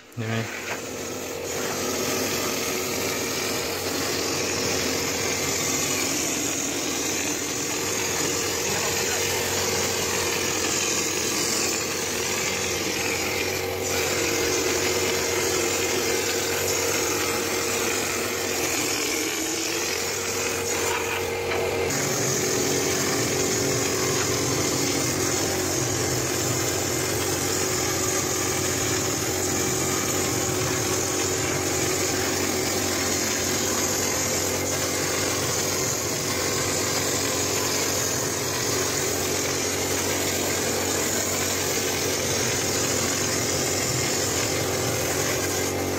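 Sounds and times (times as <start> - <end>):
air compressor running: 0.0 - 45.9
air hissing: 0.0 - 45.9.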